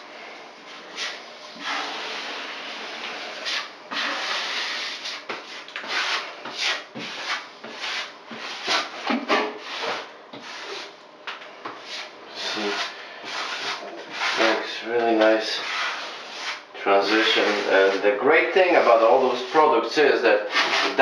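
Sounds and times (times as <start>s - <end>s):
brush scraping strokes on wall: 0.7s - 21.0s.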